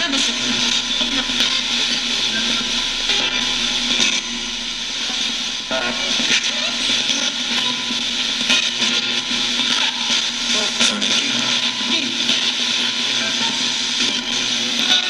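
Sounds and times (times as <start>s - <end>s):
broadcast voices: 0.0s - 15.0s
radio static rushing: 0.0s - 15.0s.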